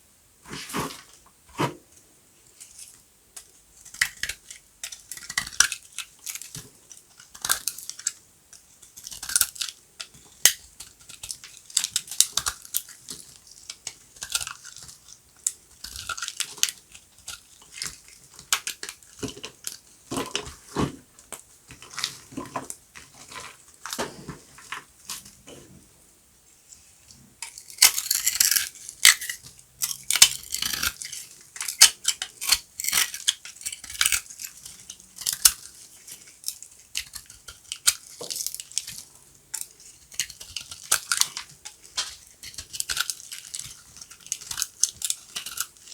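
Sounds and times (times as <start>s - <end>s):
knife cutting dry soap: 2.6s - 21.1s, 27.4s - 45.9s.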